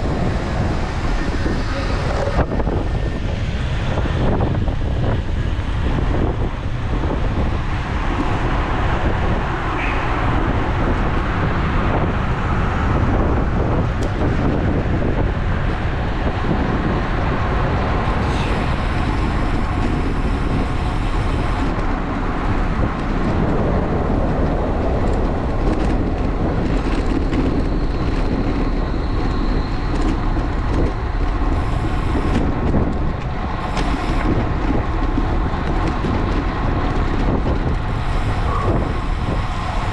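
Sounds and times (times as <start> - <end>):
road noise: 0.0 - 39.9
traffic: 0.0 - 39.9
wind rush on microphone: 0.0 - 39.9.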